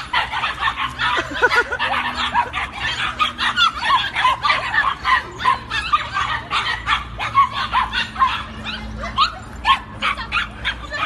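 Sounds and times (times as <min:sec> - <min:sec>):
puppies yipping and whining: 0:00.0 - 0:11.0.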